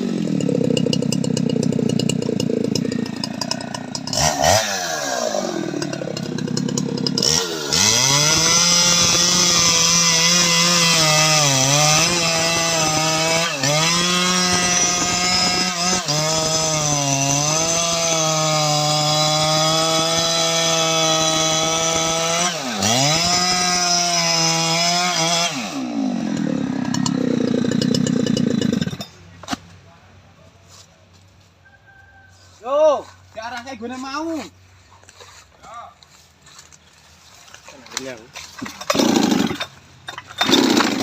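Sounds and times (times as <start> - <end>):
chainsaw cutting wood: 0.0 - 29.6, 37.3 - 41.0.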